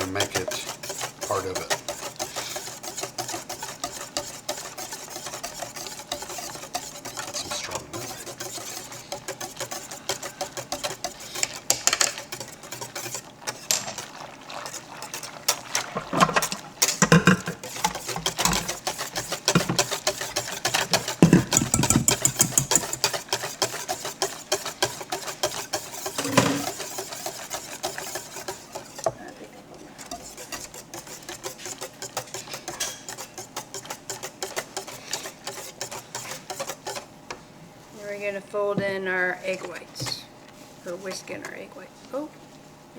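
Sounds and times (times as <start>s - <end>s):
whisk beating in a bowl: 0.0s - 37.4s.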